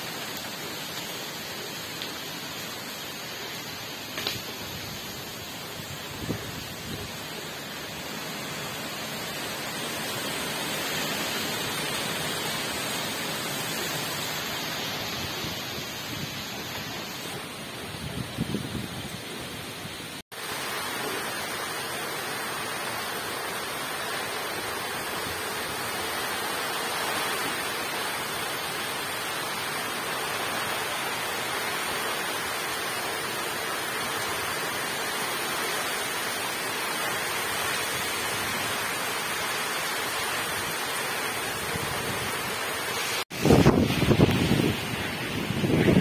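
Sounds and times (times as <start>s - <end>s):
heavy rain on a pond: 0.0s - 46.0s.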